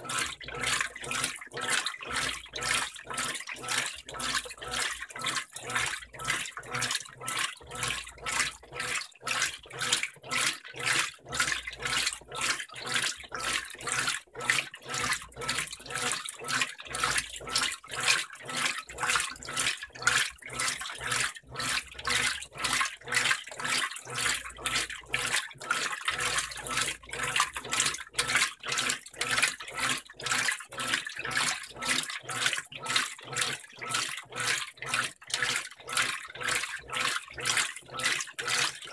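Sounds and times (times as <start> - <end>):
washing machine water sloshing: 0.0 - 38.9.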